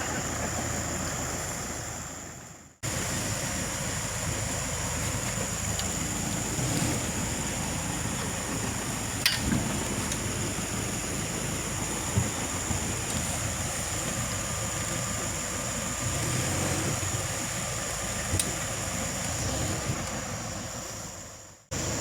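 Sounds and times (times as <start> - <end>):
off-road vehicle running: 0.0 - 22.0.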